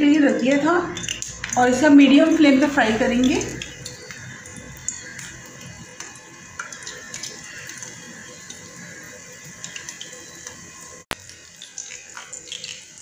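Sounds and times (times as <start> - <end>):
prawns deep-frying in oil: 0.0 - 13.0.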